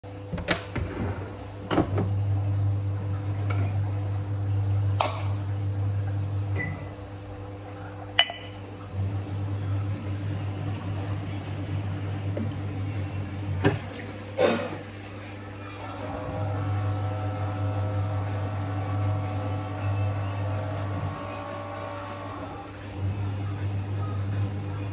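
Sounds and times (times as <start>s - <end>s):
low electrical hum: 0.0s - 24.9s.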